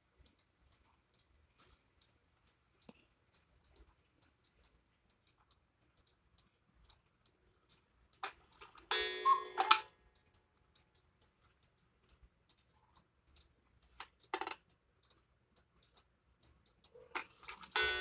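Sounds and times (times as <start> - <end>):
cuckoo clock ticking: 0.0 - 18.0
handling noise at clock dial: 0.0 - 18.0.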